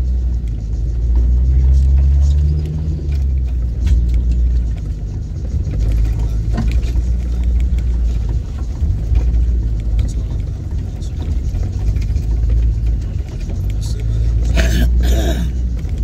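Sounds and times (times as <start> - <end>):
off-road vehicle engine running: 0.0 - 16.0
vehicle body knocks and rattles: 3.1 - 16.0.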